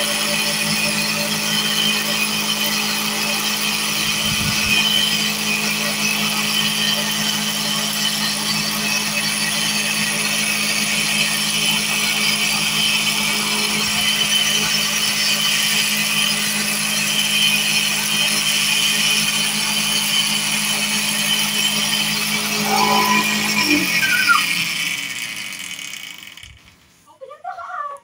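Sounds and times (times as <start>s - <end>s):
motor humming: 0.0s - 26.8s
cotton candy machine whirring: 0.0s - 28.0s.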